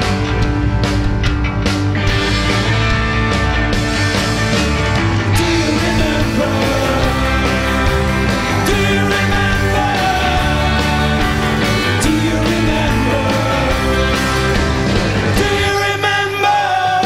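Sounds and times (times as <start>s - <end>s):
drum beat: 0.0s - 15.8s
electric guitars: 0.0s - 17.0s.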